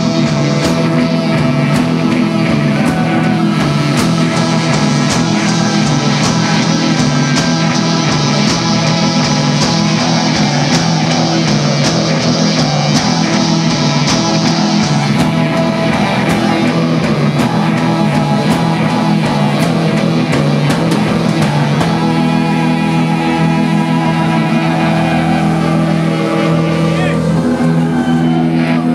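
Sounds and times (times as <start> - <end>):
drum kit steady beat: 0.0 - 25.1
bass guitar: 0.0 - 28.9
electric guitar: 0.0 - 28.9.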